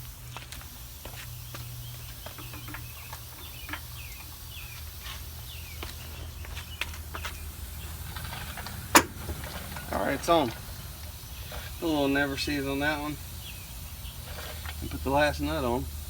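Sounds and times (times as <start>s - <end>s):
birds chirping: 0.3s - 16.0s.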